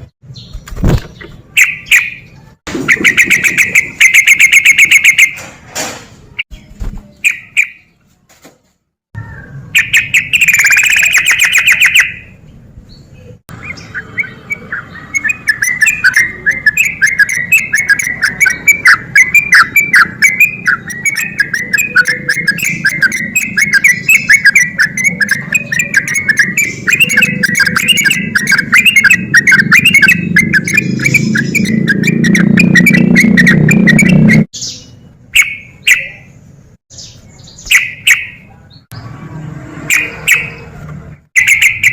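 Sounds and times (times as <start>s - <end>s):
bird singing rapid chattering notes: 0.0s - 5.4s, 9.2s - 36.3s, 36.9s - 39.1s, 41.3s - 41.9s.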